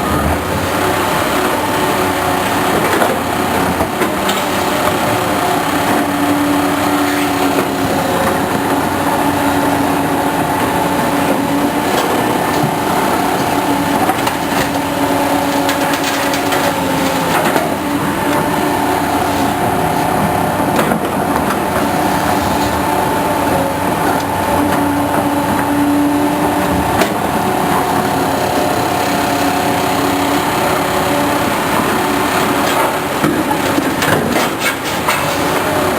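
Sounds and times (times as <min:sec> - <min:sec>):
machine engine whining hum: 0:00.0 - 0:35.9.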